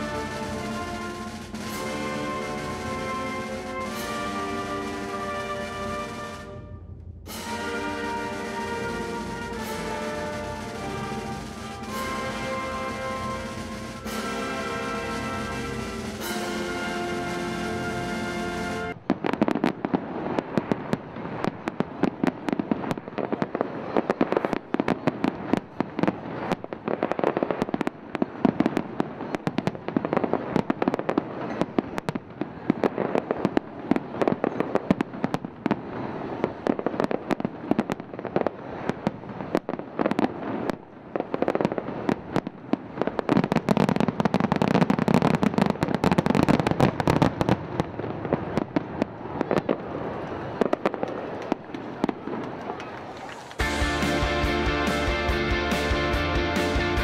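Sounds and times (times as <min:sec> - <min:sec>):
fireworks cracks and bangs: 0:00.0 - 0:57.0.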